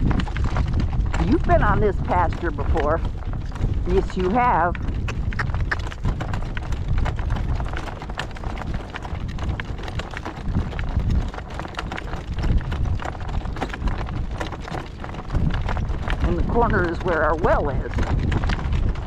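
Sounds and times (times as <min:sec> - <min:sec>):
cart and harness rattling: 0:00.0 - 0:19.0
horse hoofbeats: 0:00.0 - 0:19.0
steady low rumble: 0:00.0 - 0:19.0.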